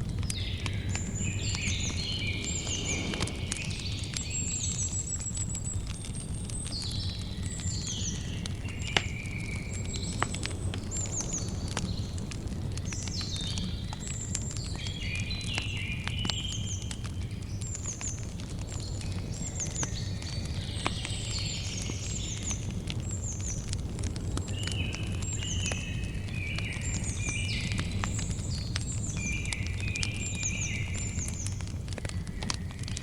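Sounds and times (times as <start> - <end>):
campfire crackling and popping: 0.0 - 33.0
small birds chirping: 0.0 - 33.0.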